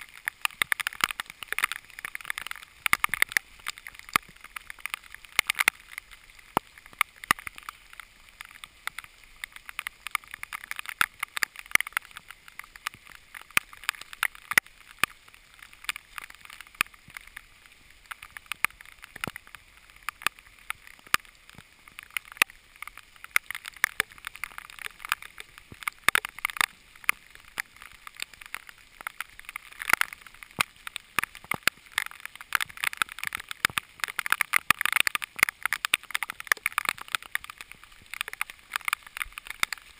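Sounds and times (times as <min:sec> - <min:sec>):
heavy rain hiss: 0:00.0 - 0:39.9
raindrops tapping on camera: 0:00.0 - 0:39.9.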